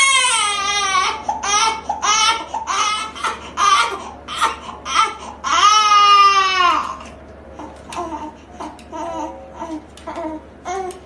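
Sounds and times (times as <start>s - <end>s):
baby crying: 0.0s - 11.0s.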